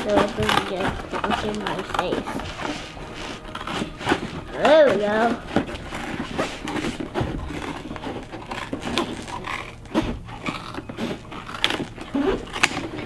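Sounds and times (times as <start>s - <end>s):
toy packaging rustling: 0.0s - 13.0s.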